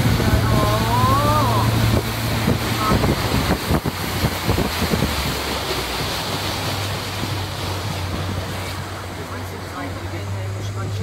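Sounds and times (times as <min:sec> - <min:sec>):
boat engine low hum: 0:00.0 - 0:11.0
water rushing past hull: 0:00.0 - 0:11.0
wind buffeting microphone: 0:00.0 - 0:11.0.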